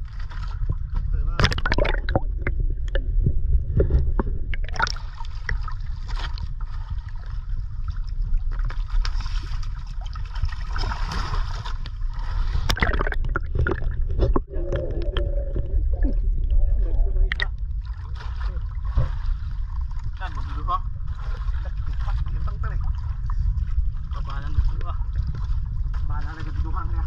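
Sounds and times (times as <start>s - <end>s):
sea water sloshing and splashing: 0.0s - 27.0s
steady low rumble: 0.0s - 27.0s.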